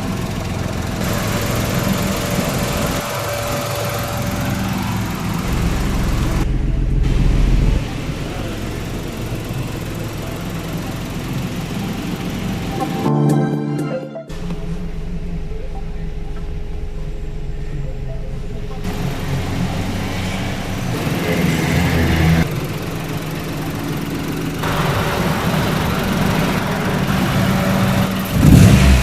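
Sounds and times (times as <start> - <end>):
petrol engine running: 0.0 - 29.0.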